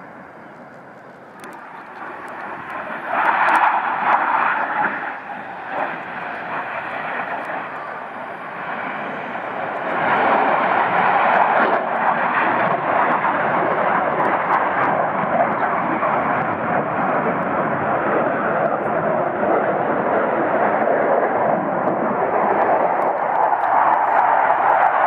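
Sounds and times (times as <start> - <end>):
jet engines passing overhead: 0.0 - 25.0.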